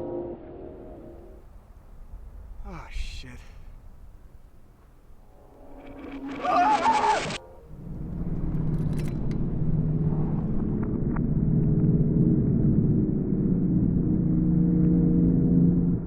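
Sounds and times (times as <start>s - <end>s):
low rumble with droning hum: 0.7s - 16.0s.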